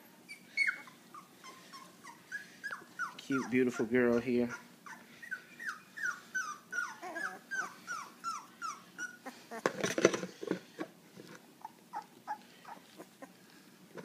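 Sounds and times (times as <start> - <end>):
puppy whimpering: 0.2 - 9.7, 11.6 - 13.4.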